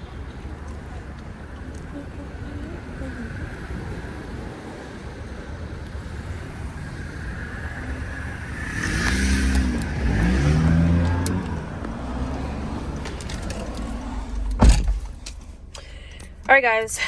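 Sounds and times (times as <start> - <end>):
car engine and road rumble: 0.0 - 17.0
vehicle accelerating: 0.9 - 16.2.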